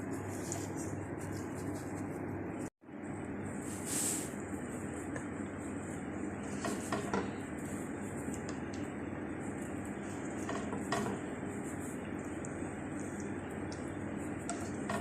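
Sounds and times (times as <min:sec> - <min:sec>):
low sizzle: 0:00.0 - 0:15.0.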